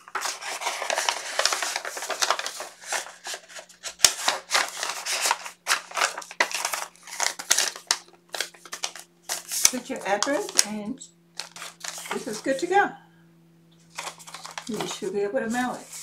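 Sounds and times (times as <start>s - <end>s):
paper rustling and scraping: 0.0s - 10.7s, 11.4s - 12.6s, 13.8s - 16.0s.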